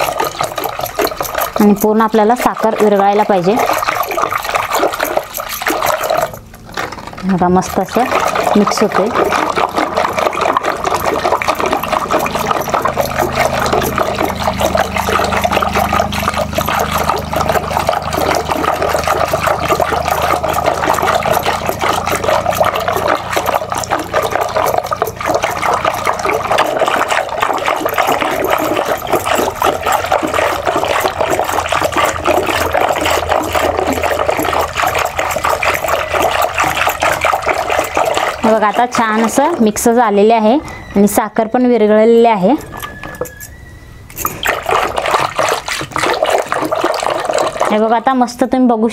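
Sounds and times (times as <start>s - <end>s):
wet sloshing of churned pulp: 0.0s - 48.9s.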